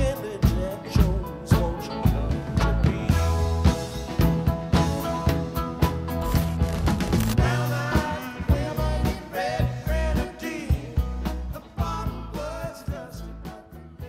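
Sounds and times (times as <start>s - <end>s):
song with vocals drums and bass: 0.0s - 14.0s.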